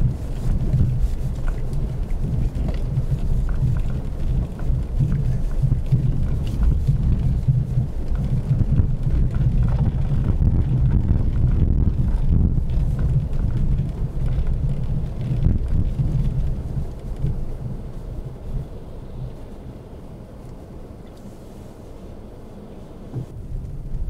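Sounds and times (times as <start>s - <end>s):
car rumbling over snow: 0.0s - 24.0s.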